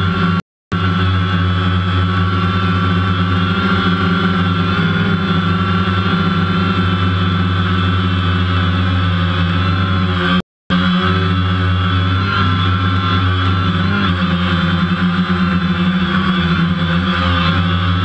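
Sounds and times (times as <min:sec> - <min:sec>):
drone motors buzzing: 0:00.0 - 0:18.0.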